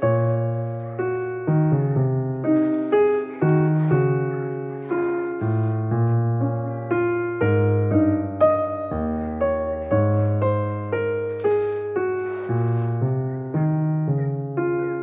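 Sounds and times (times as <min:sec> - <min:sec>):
piano playing chords: 0:00.0 - 0:15.0.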